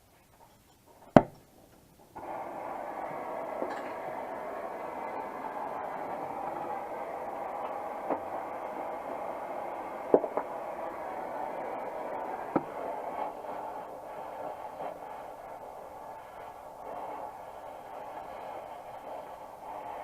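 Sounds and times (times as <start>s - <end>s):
torch flame hissing: 0.8s - 20.0s.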